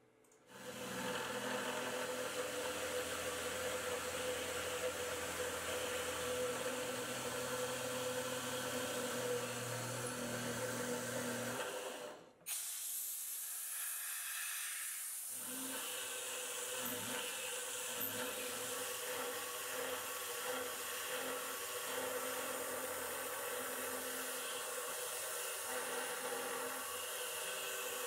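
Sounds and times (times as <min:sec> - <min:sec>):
milling machine droning: 0:00.5 - 0:12.2, 0:15.4 - 0:28.0.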